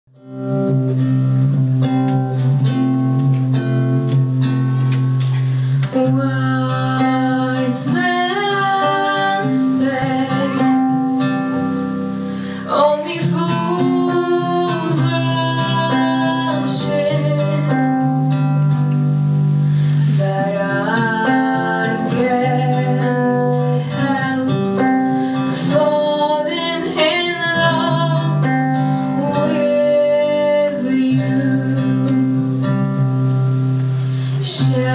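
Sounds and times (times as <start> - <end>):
guitar accompaniment: 0.1 - 34.9
woman singing slow song: 5.4 - 34.9.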